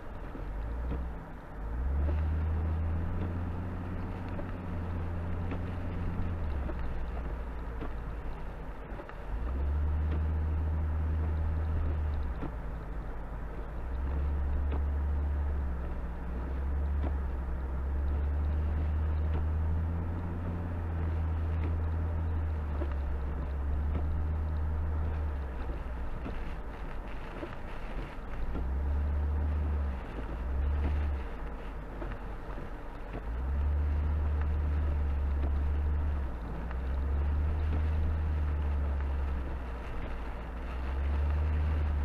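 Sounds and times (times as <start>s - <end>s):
car engine and road noise drone: 0.0s - 42.0s.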